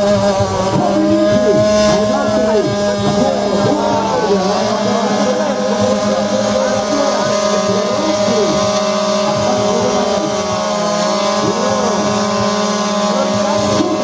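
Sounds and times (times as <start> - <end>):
scooter engine at high revs: 0.0 - 14.0
second engine rising and falling: 0.0 - 14.0.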